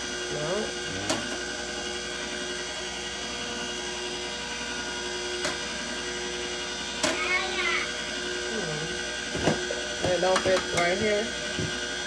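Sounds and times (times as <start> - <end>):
juicer motor whining: 0.0 - 12.0.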